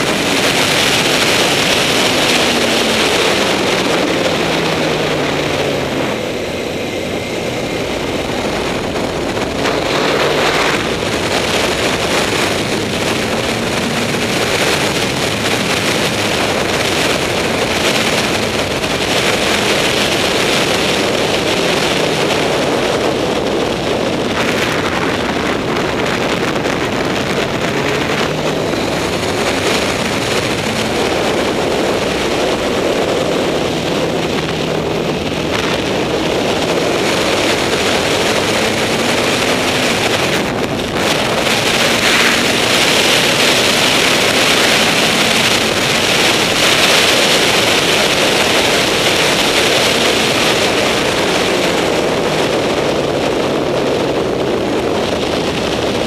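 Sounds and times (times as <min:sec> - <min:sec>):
motorcycle engine revving: 0:00.0 - 0:56.0
wind rush on microphone: 0:00.0 - 0:56.0.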